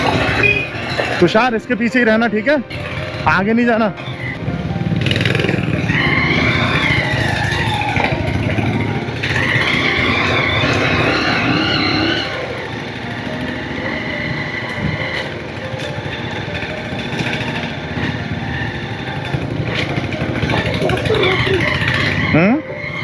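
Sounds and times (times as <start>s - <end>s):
motorcycle engines running: 0.0s - 23.0s.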